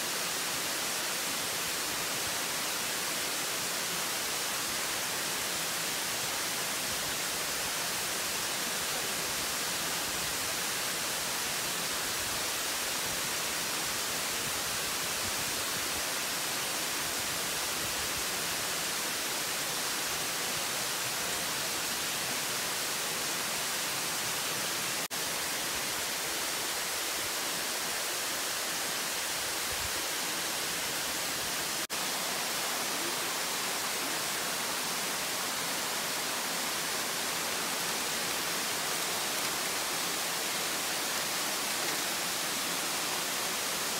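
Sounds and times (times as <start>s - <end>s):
waterfall rushing over rocks: 0.0s - 43.9s.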